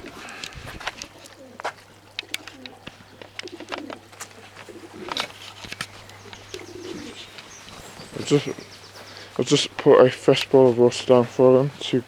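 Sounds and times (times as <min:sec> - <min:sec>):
pigeons cooing: 0:00.0 - 0:09.8.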